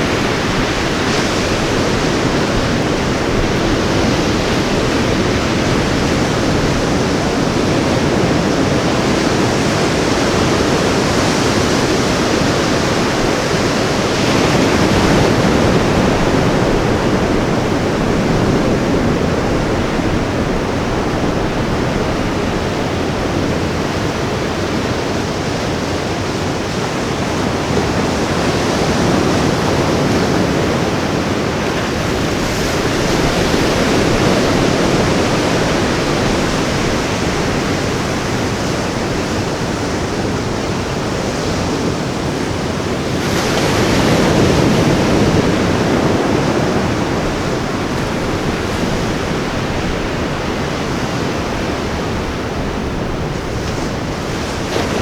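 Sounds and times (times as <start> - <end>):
ocean waves breaking on beach: 0.0 - 55.0
wind on microphone: 0.0 - 55.0.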